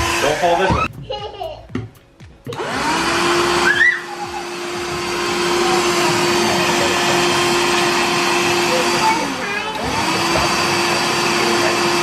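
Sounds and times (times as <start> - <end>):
vacuum cleaner motor humming: 0.0 - 0.9, 2.5 - 12.0.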